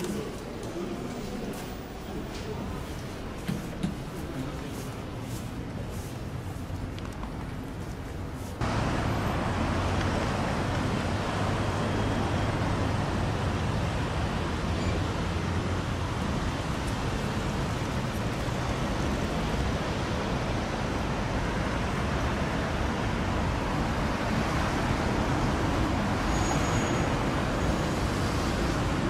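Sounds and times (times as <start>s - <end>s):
road traffic hum: 0.0s - 29.0s.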